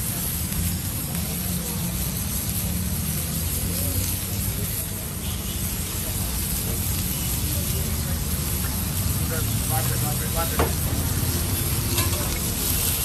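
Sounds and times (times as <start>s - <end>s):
vegetables sizzling on griddle: 0.0s - 13.0s.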